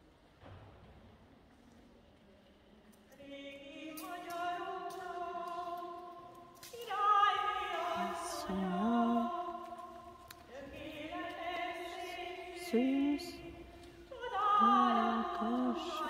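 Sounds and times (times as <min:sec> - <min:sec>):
voices singing a hymn: 0:03.1 - 0:16.0.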